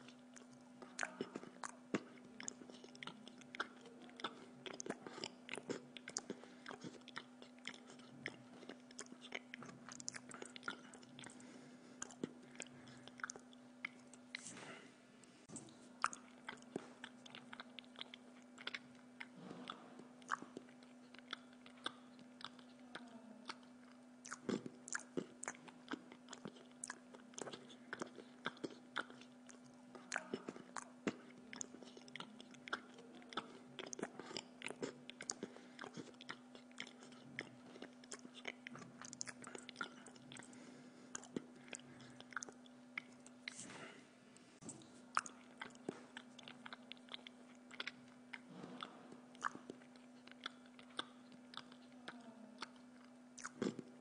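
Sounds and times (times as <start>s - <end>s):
person chewing: 0.0s - 54.0s
steady low hum: 0.0s - 54.0s.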